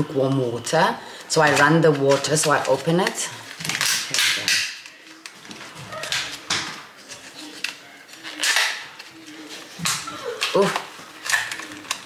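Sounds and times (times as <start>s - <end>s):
plastic container crackling: 1.3s - 12.0s.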